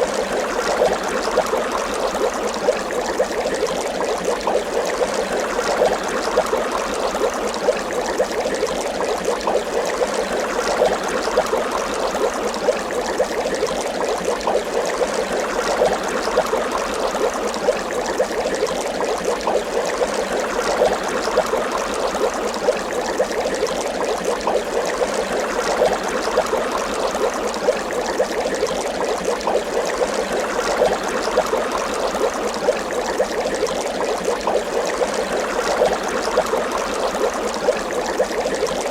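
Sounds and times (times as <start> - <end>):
water bubbling: 0.0 - 38.9.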